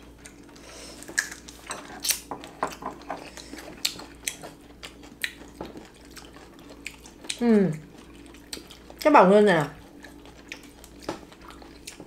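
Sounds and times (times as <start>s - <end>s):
chewing and mouth smacks: 0.0s - 9.1s, 9.7s - 12.0s.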